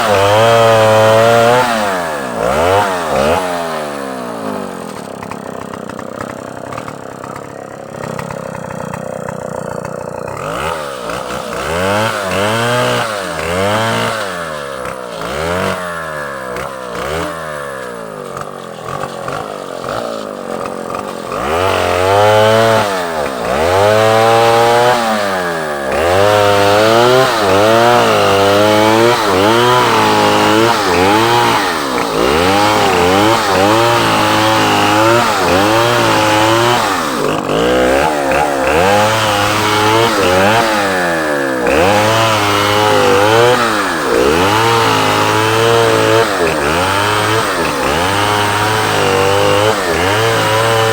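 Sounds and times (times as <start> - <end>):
chainsaw cutting logs: 0.0 - 50.9.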